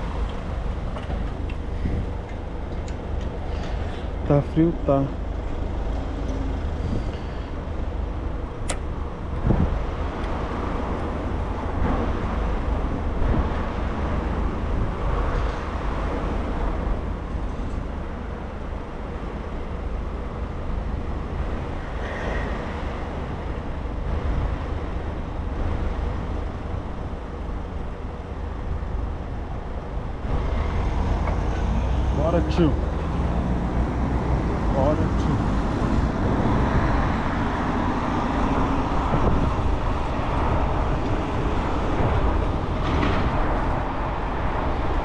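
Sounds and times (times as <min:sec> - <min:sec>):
low wind rumble: 0:00.0 - 0:45.0
road traffic noise: 0:00.0 - 0:45.0.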